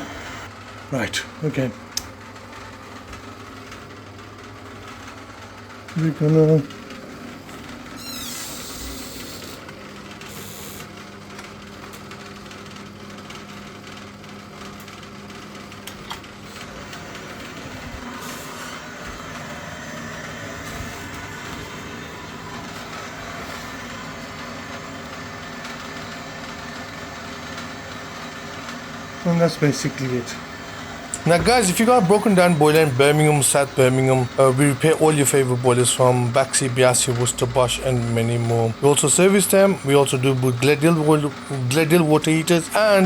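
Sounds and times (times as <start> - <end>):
boiler humming: 0.0 - 43.0.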